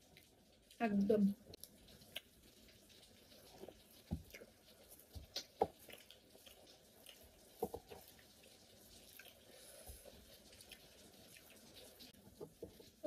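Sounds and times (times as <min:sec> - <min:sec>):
wet chewing and lip smacking: 0:00.0 - 0:00.8, 0:01.4 - 0:13.0.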